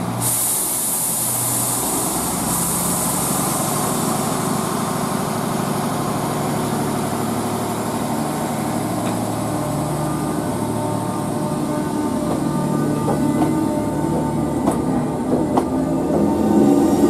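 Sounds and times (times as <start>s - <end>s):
train mechanical drone: 0.0s - 17.0s.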